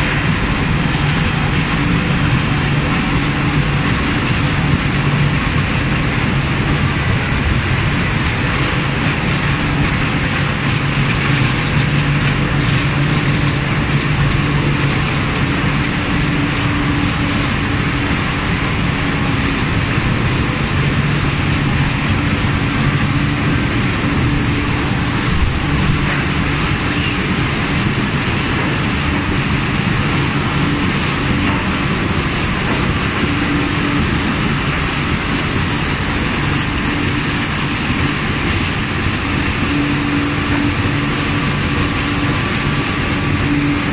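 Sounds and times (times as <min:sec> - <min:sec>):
factory machines running: 0:00.0 - 0:43.9.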